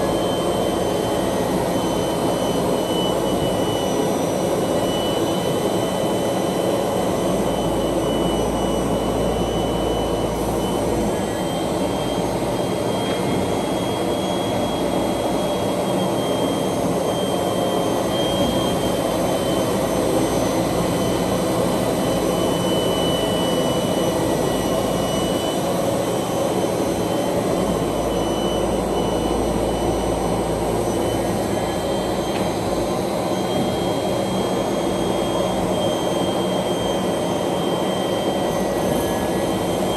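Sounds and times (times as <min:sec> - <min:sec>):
sanding machine drone and whine: 0:00.0 - 0:39.9.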